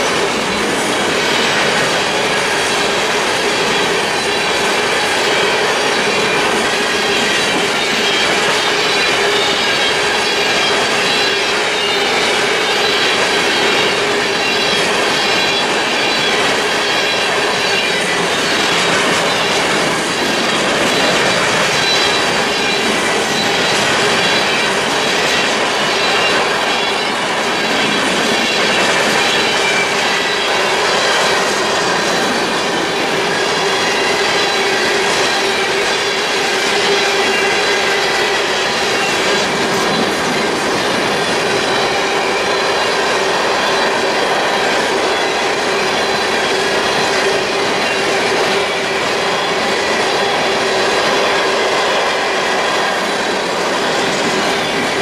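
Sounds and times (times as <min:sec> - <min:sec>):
freight cars rumbling on rails: 0:00.0 - 0:55.0
high wheel squeal: 0:00.0 - 0:55.0.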